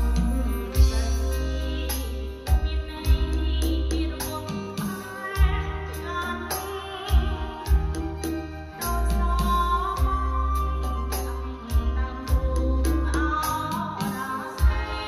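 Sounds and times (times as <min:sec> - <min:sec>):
song with singing and deep bass: 0:00.0 - 0:15.0.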